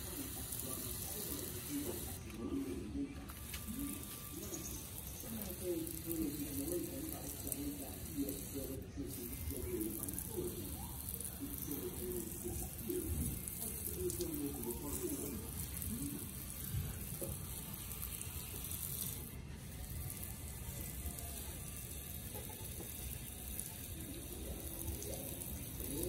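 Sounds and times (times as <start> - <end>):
water spraying from hose: 0.0 - 2.3, 3.3 - 26.0.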